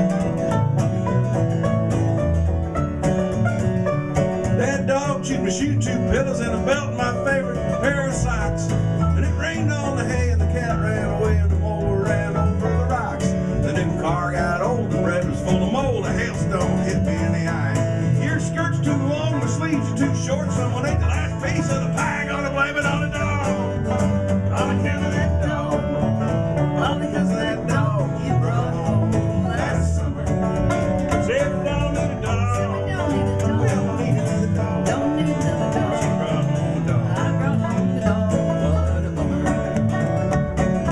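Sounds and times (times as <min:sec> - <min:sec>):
banjo picking: 0:00.0 - 0:40.9
plucked string instrument: 0:00.0 - 0:40.9
strummed acoustic guitar: 0:00.0 - 0:40.9.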